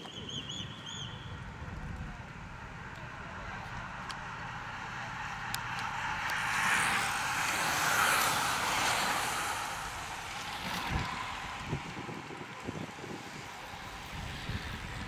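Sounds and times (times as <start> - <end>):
bicycles sweeping past: 0.0 - 15.0.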